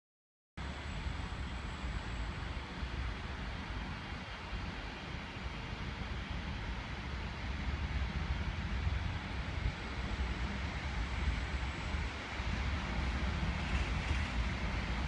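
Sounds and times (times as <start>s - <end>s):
train rumbling: 0.6s - 15.0s.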